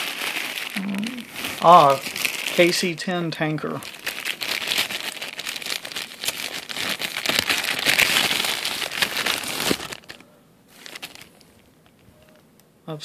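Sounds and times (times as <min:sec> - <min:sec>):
plastic bags crinkling: 0:00.0 - 0:12.4.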